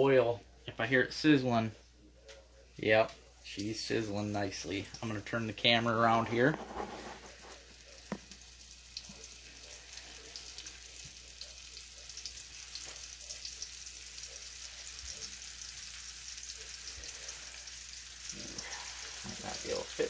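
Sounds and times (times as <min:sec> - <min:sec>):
meat sizzling in grease: 0:03.4 - 0:20.0.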